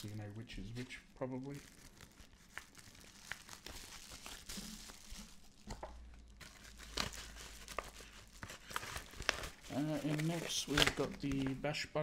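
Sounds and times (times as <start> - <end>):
packaging crinkling: 0.8 - 11.6.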